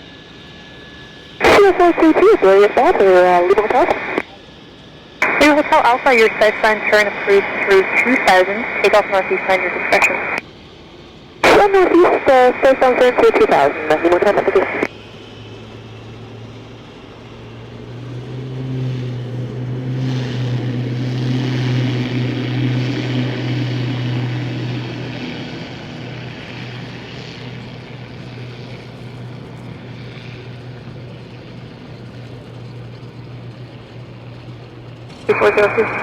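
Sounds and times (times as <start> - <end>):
turboprop engine droning: 0.0 - 36.0.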